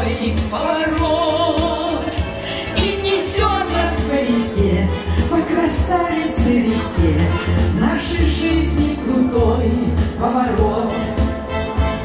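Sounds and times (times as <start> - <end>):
live pop music over loudspeakers: 0.0 - 12.0
person singing: 0.0 - 12.0.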